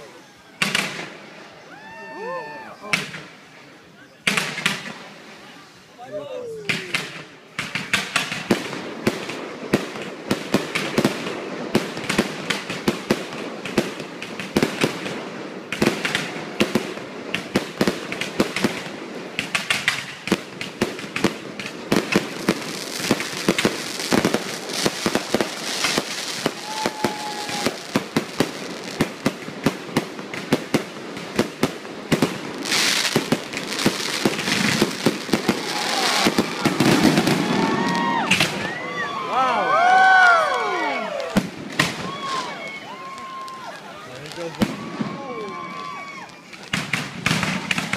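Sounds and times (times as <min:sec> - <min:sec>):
fireworks bangs and crackles: 0:00.0 - 0:05.7, 0:06.6 - 0:47.9.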